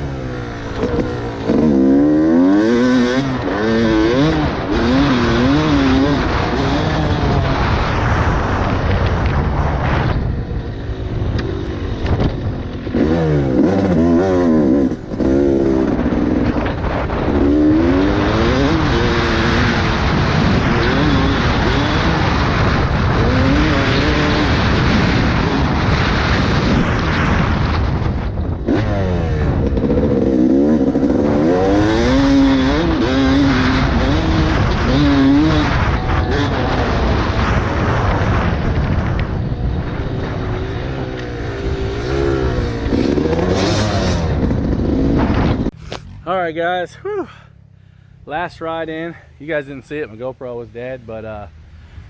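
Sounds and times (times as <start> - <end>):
motocross bike engine revving: 0.0 - 52.0.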